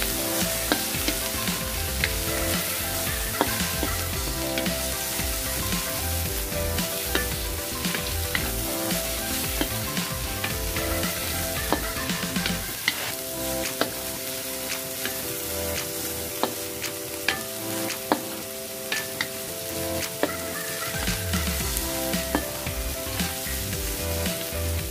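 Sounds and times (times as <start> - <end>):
vegetables sizzling in pan: 0.0 - 24.9.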